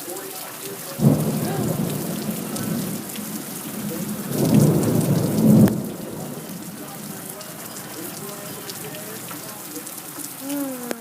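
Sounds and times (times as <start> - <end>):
steady rain: 0.0 - 11.0
thunder rumbling: 1.0 - 9.8.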